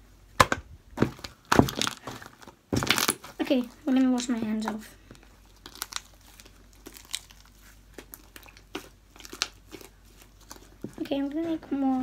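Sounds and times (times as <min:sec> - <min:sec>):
slime clicking and crackling: 0:01.0 - 0:04.8, 0:05.4 - 0:12.0.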